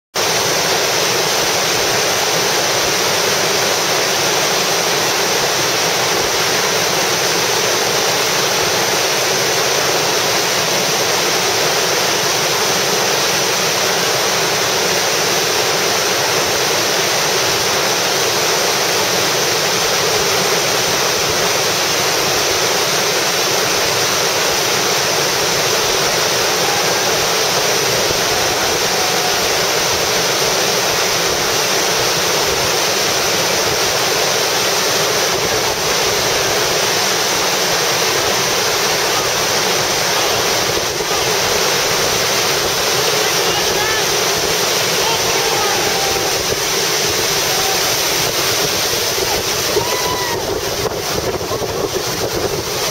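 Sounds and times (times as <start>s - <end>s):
water rushing over boulders: 0.1s - 52.9s.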